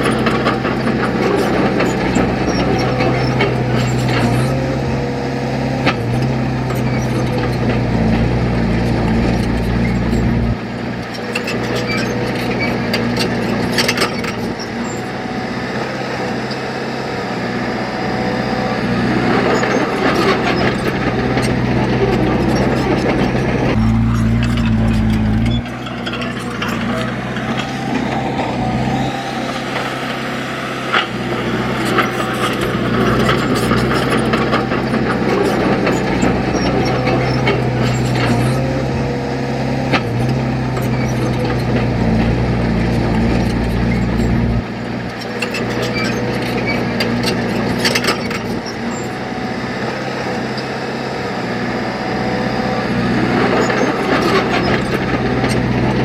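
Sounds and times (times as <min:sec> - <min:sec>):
heavy machinery diesel engine running: 0:00.0 - 0:56.0.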